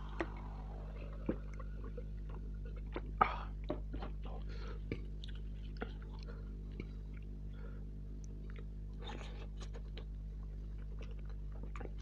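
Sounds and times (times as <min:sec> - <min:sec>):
chewing and mouth sounds: 0:00.0 - 0:12.0
low hum: 0:00.0 - 0:12.0.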